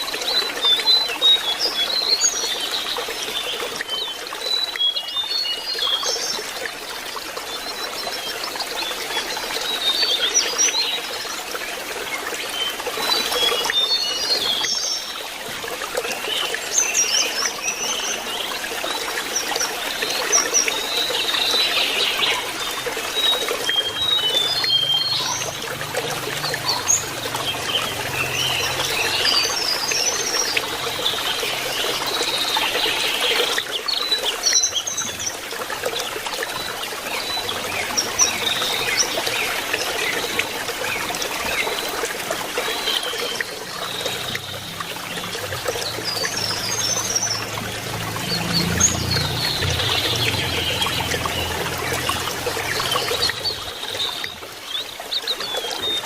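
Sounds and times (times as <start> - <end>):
trickling water: 0.0 - 56.0.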